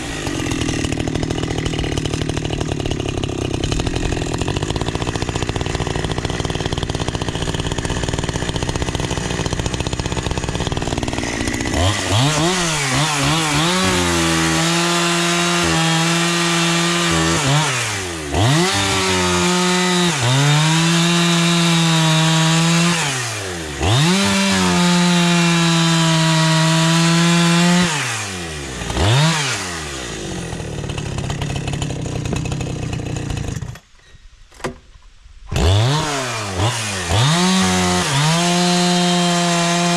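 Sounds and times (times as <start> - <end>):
chainsaw revving: 0.0 - 33.9, 35.5 - 39.9.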